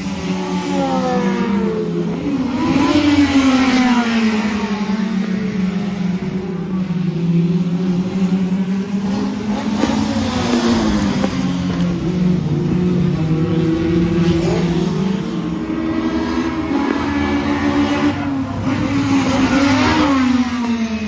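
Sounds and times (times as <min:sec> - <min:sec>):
race car engines: 0:00.0 - 0:21.0.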